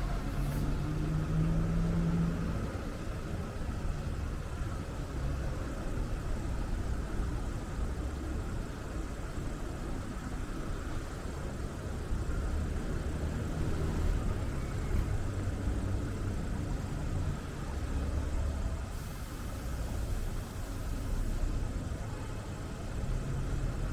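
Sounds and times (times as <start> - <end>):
car engines: 0.0 - 23.9
city street traffic rumble: 0.0 - 23.9.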